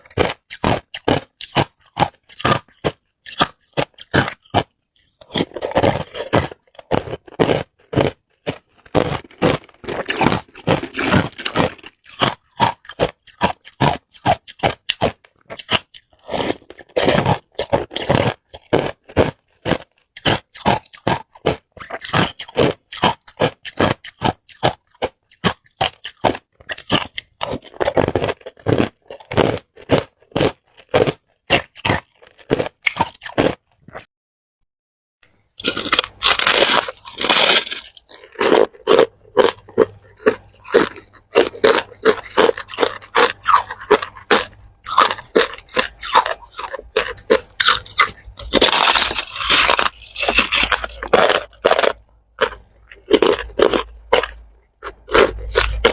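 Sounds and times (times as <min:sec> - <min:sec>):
ice cubes crunching and chewed: 0:00.0 - 0:34.1, 0:35.4 - 0:55.9.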